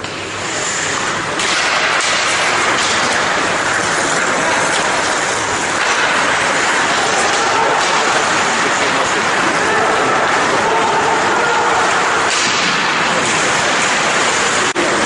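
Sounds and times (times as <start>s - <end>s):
skate blades scraping ice: 0.4s - 15.0s.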